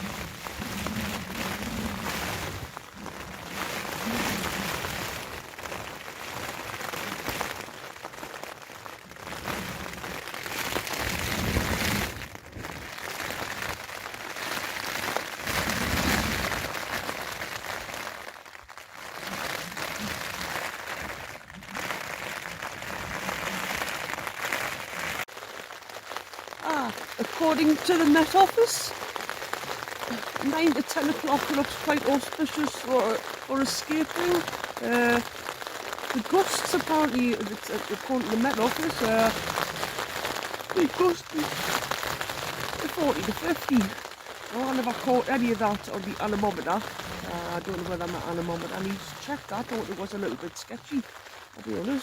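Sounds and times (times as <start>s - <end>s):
storm wind gusting against tent: 0.0s - 18.4s, 19.2s - 25.5s, 26.6s - 52.0s
rain beating on tent fabric: 0.0s - 52.0s.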